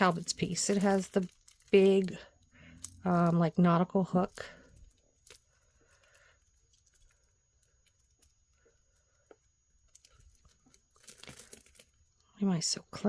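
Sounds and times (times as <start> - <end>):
necklace beads clicking: 0.0 - 12.3.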